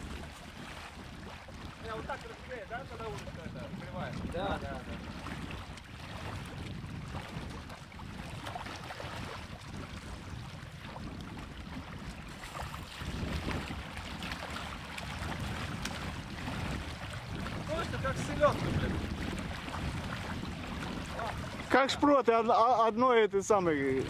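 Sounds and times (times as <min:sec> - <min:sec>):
waves lapping against rocks: 0:00.0 - 0:24.0
wind buffeting microphone: 0:00.0 - 0:24.0.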